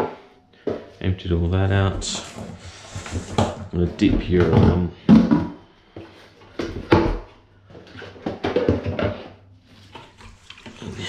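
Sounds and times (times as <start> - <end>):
plastic containers clattering in sink: 1.8 - 11.0.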